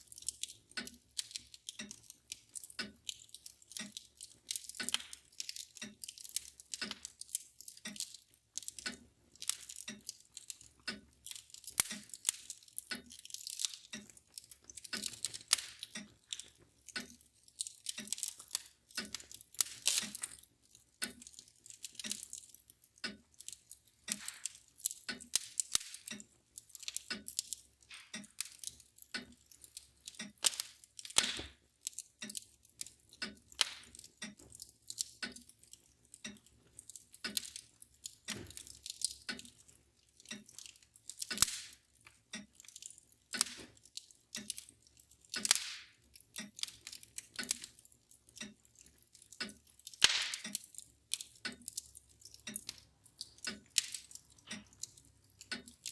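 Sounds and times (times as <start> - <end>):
clock ticking: 0.0 - 55.9
wood fire crackling and popping: 0.0 - 55.9.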